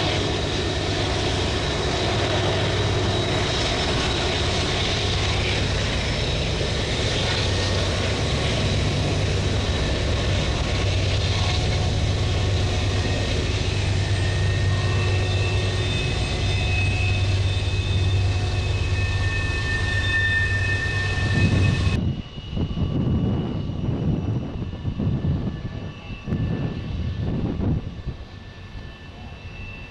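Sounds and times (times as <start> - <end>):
engine drone with low hum: 0.0 - 29.9.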